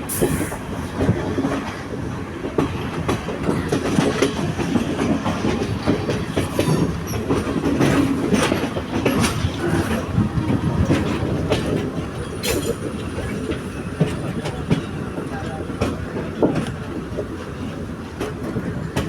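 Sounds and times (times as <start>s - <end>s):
train rumbling on track: 0.0s - 19.0s
wheels clattering over rails: 2.5s - 19.0s.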